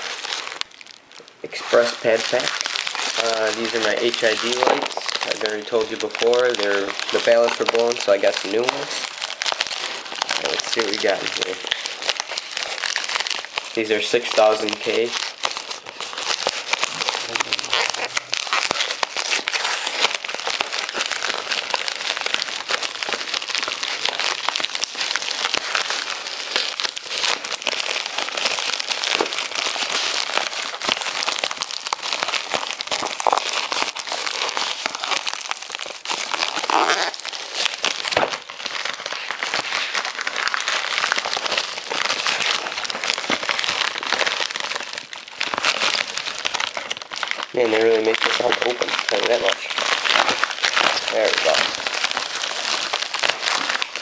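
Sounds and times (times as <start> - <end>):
plastic mailer crinkling: 0.0 - 54.0.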